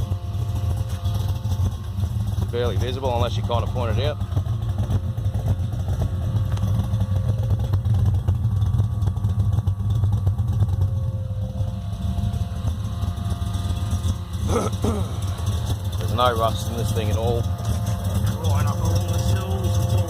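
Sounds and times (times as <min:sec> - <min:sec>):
car engine idling lumpily: 0:00.0 - 0:20.0.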